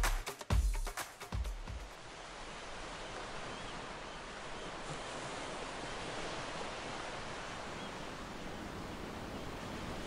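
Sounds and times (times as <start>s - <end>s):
ocean surf breaking on rocks: 1.9s - 10.0s.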